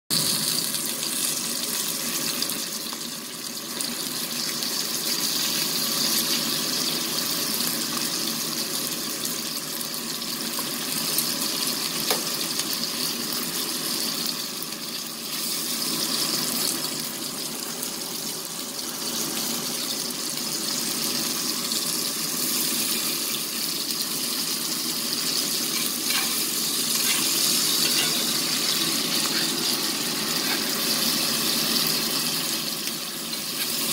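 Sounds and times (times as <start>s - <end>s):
steak sizzling in skillet: 0.1s - 33.9s.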